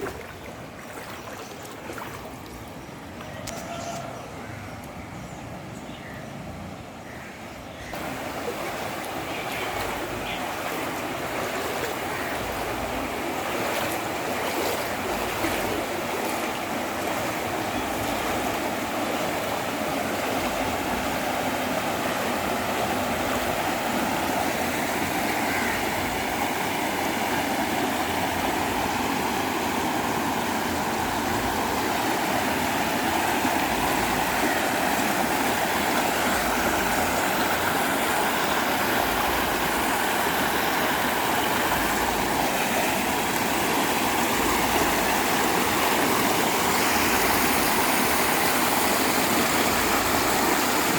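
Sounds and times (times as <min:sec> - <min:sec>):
floodwater rushing: 0:00.0 - 0:04.5, 0:07.9 - 0:50.9.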